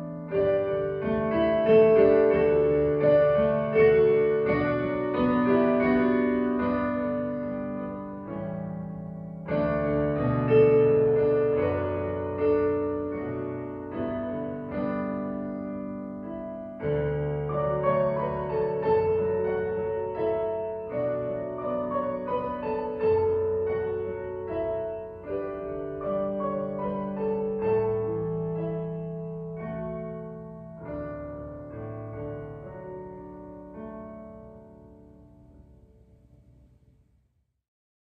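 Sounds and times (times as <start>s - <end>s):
slow chordal piano music: 0.0s - 37.0s.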